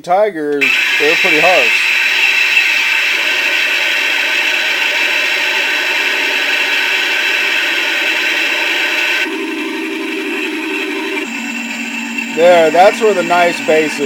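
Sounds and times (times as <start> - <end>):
toy tank engine sound effect: 0.6 - 14.0.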